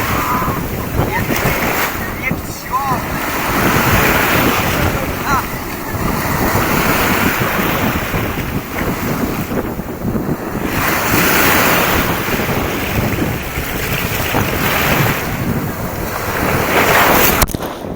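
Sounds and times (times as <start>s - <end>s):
sea waves rushing: 0.0s - 17.9s
wind buffeting microphone: 0.0s - 17.9s.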